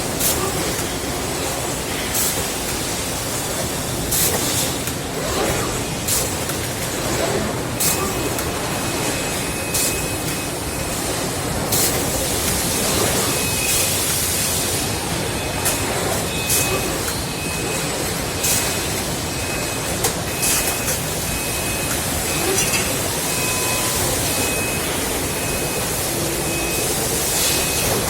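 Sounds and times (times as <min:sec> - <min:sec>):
factory machinery din: 0:00.0 - 0:28.0.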